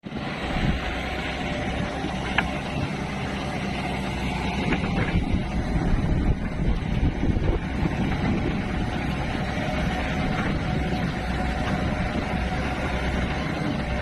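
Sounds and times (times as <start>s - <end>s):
backhoe engine running: 0.0s - 14.0s.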